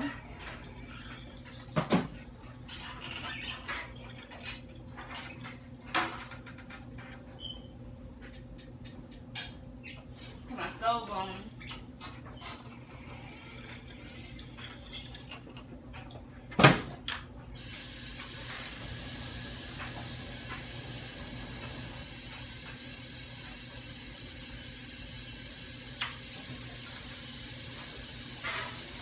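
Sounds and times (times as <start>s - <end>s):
tap water running: 0.0s - 7.2s, 11.6s - 29.0s.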